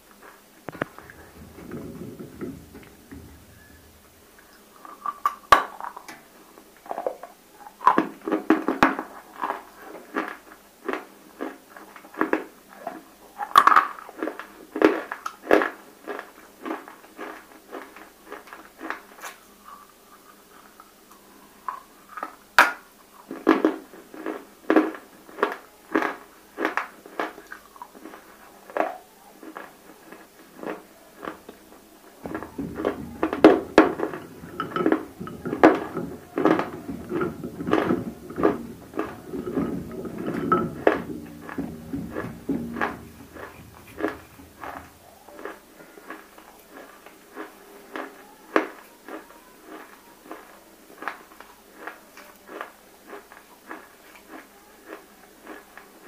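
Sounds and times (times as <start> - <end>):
crunchy biting and chewing: 6.9 - 56.0.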